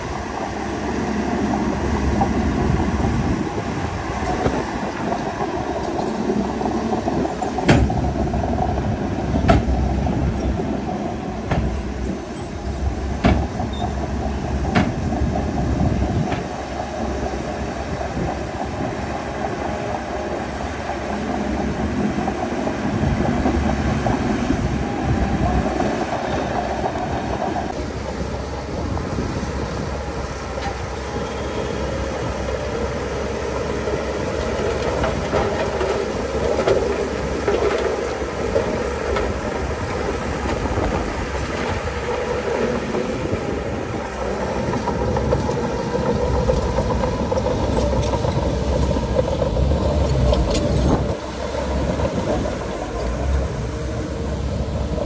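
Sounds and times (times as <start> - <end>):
diesel engine under load: 0.0 - 55.0
steel tracks clanking and squealing: 0.0 - 55.0.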